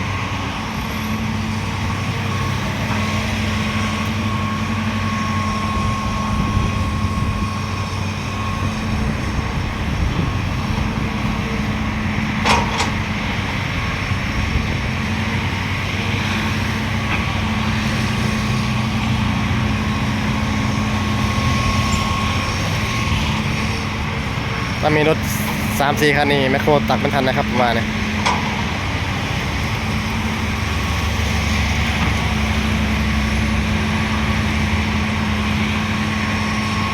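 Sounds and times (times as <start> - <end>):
heavy diesel engines running: 0.0 - 36.9
faint steady whine: 0.5 - 36.9.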